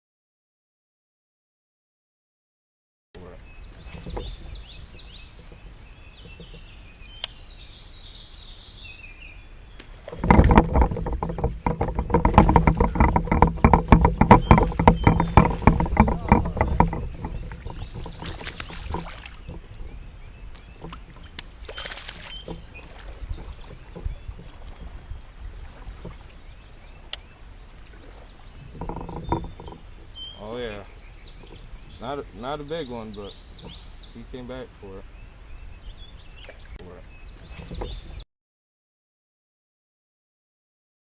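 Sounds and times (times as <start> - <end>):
birds chirping: 3.2 - 38.3.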